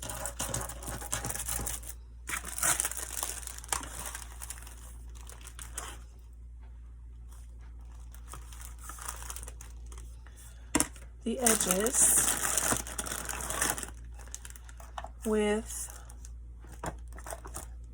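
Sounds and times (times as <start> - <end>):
crinkling and rustling materials: 0.0 - 6.4, 7.2 - 17.9.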